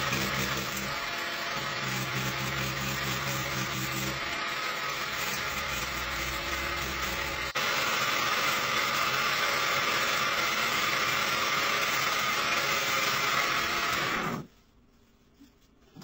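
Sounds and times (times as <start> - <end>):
lathe cutting wood: 0.0 - 14.5.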